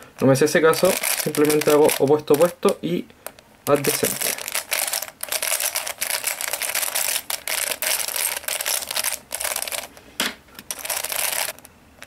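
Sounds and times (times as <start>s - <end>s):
plastic puzzle clicking and rattling: 0.7s - 10.0s, 10.6s - 11.7s.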